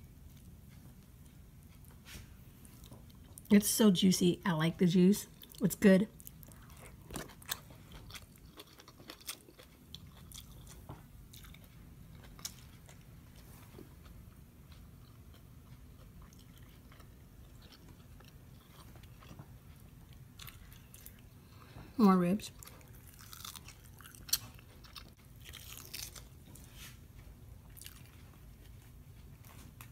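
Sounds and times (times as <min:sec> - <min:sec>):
soft wet chewing: 0:00.1 - 0:03.5, 0:05.3 - 0:21.9, 0:22.5 - 0:29.9.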